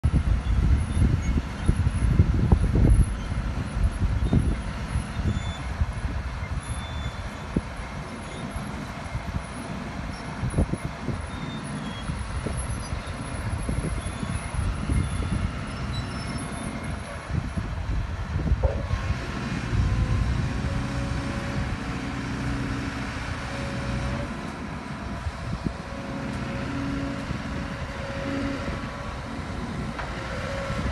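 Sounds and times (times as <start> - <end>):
excavator diesel engine drone: 0.0 - 30.9.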